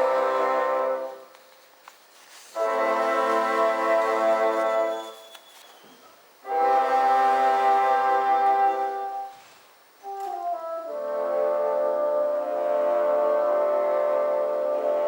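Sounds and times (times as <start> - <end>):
bassoon ensemble chords: 0.0 - 1.3, 2.5 - 5.1, 6.4 - 15.0.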